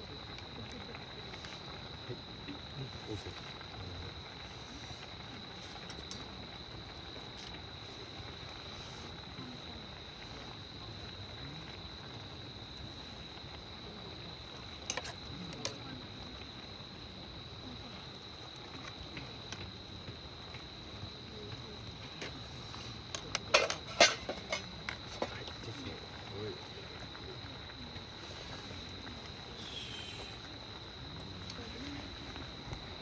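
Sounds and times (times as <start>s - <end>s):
cricket trilling: 0.0s - 33.0s.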